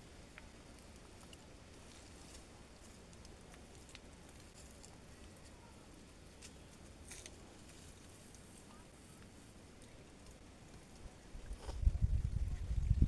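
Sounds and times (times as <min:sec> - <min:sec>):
soft clicks and crackles: 0:00.1 - 0:05.7, 0:06.3 - 0:11.9.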